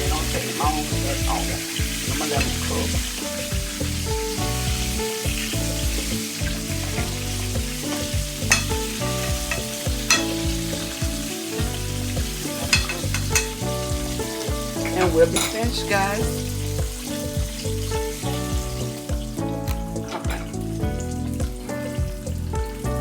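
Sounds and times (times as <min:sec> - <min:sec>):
oil popping and crackling: 0:00.0 - 0:23.0
oil sizzling in a pan: 0:00.0 - 0:23.0.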